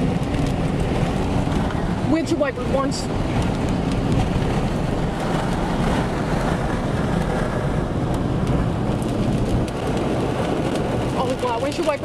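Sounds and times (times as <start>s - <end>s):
wind and rain around car: 0.0s - 12.0s.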